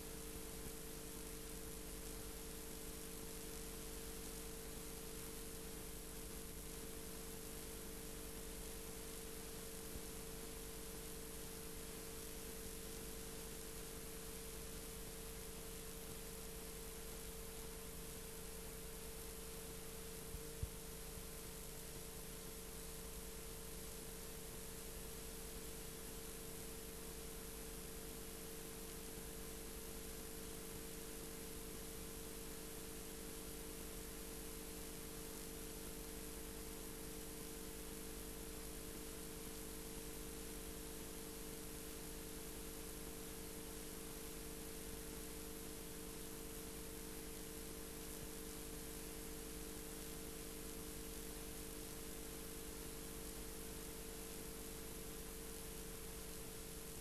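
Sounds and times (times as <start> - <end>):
low electrical hum: 0.0 - 57.0
steady tape hiss: 0.0 - 57.0.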